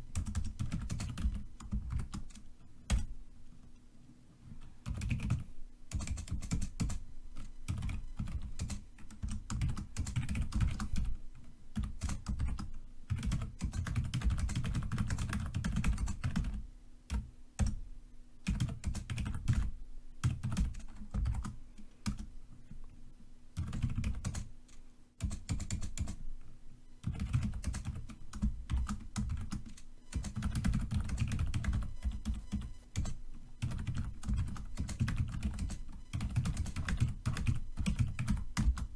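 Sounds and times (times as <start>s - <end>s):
typing on keyboard: 0.1s - 3.1s, 4.8s - 17.8s, 18.4s - 22.3s, 23.6s - 26.2s, 27.0s - 38.9s.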